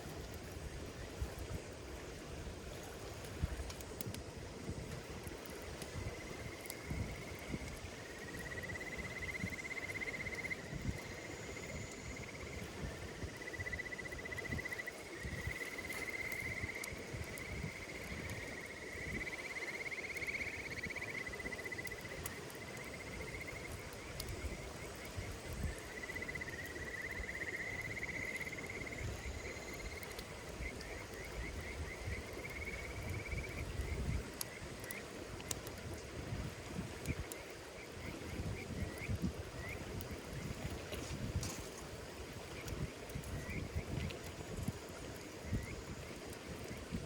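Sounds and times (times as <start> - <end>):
bonfire crackling: 0.0 - 47.0
insects trilling: 5.6 - 35.2, 37.1 - 47.0.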